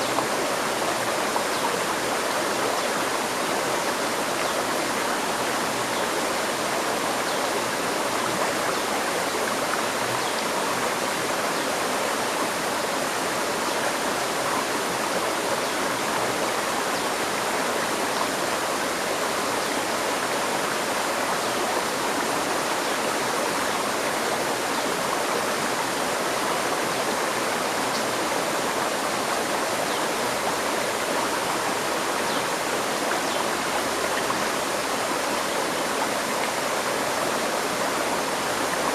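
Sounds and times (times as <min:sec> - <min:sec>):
river water running over rocks: 0:00.0 - 0:38.9.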